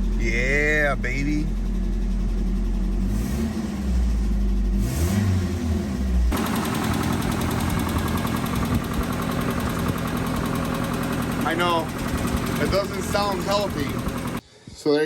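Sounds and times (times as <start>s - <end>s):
pickup engine running: 0.0s - 14.4s.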